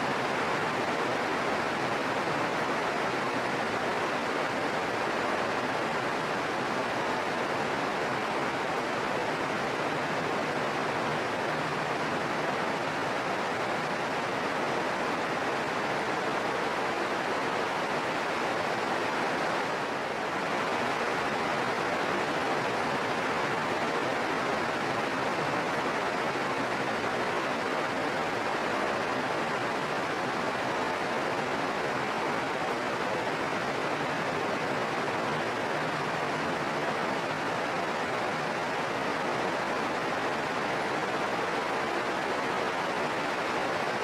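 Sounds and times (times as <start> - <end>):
steady rainfall hiss: 0.0 - 44.0.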